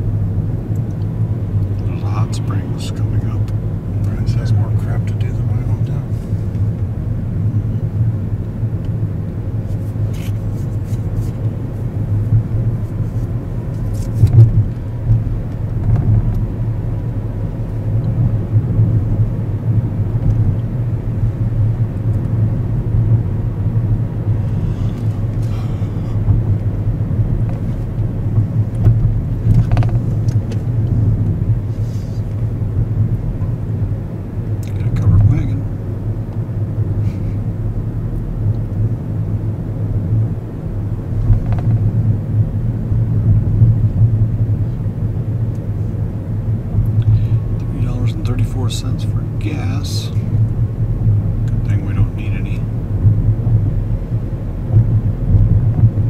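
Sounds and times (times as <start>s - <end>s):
car interior road rumble: 0.0s - 56.0s.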